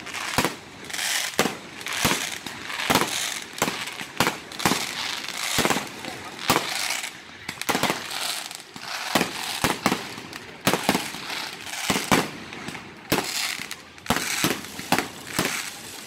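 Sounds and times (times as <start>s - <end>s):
fireworks bangs: 0.0s - 16.0s
fireworks hissing: 0.0s - 16.0s.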